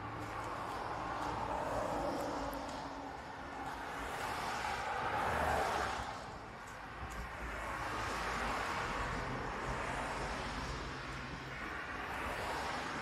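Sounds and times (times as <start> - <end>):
road traffic rushing by: 0.0 - 13.0.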